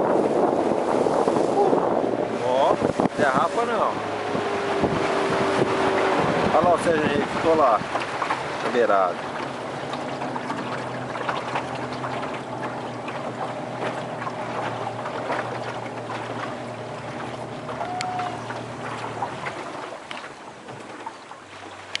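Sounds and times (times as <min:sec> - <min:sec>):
boat motor humming: 0:00.0 - 0:22.0
water rushing: 0:00.0 - 0:22.0.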